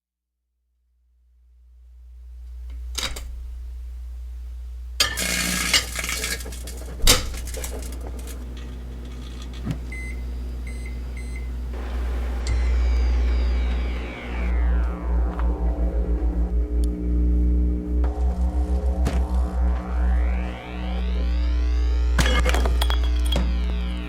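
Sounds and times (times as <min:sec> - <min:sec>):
microwave oven humming: 0:01.6 - 0:24.0.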